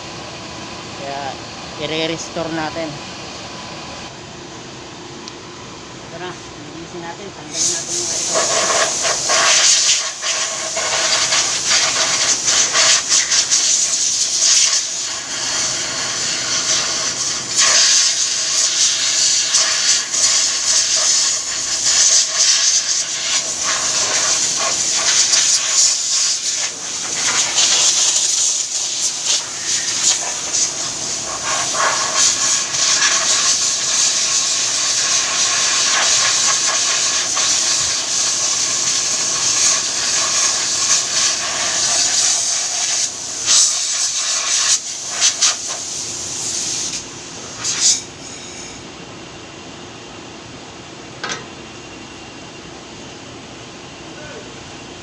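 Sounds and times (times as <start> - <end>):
loud steady hissing: 0.0 - 55.0.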